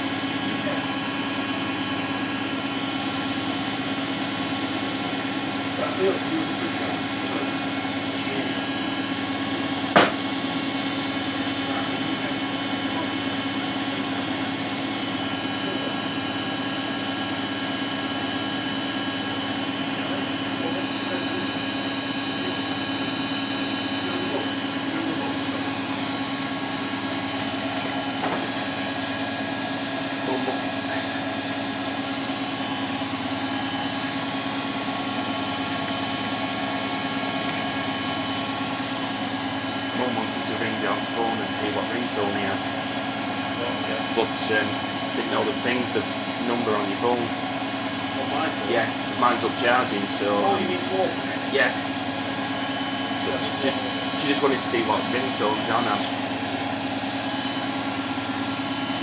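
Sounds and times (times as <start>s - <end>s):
washing machine spinning whine: 0.0s - 59.0s.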